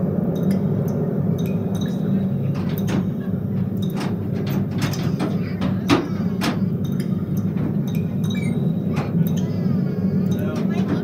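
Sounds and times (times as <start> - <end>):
steady low hum: 0.0 - 11.0
sharp clicks and knocks: 0.4 - 9.6.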